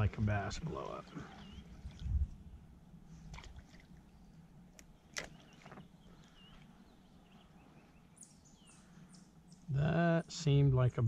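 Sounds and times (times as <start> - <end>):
faint bird chirps: 0.8 - 10.6.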